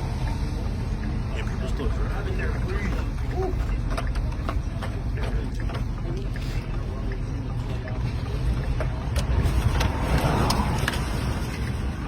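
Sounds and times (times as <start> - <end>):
low rumble of wind: 0.0 - 12.0
vehicle noise: 0.0 - 12.0.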